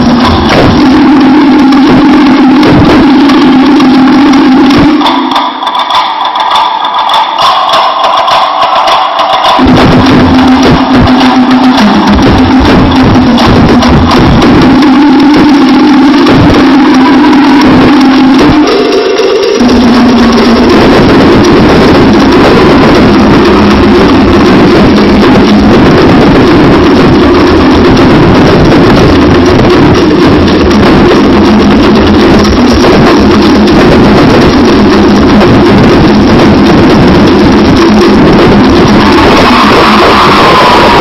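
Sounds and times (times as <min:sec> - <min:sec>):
fast distorted drumming: 0:00.0 - 0:41.0.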